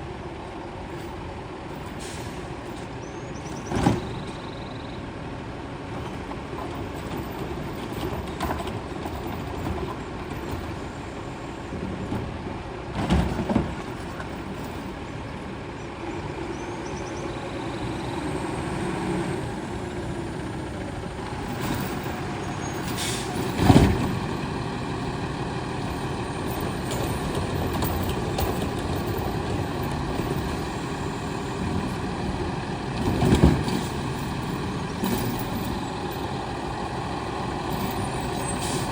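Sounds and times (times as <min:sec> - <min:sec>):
garbage truck running: 0:00.0 - 0:38.9.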